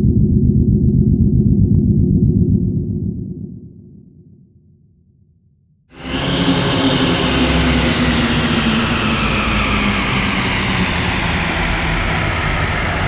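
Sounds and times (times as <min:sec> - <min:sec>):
dense rumbling drone: 0:00.0 - 0:04.5, 0:06.0 - 0:13.0.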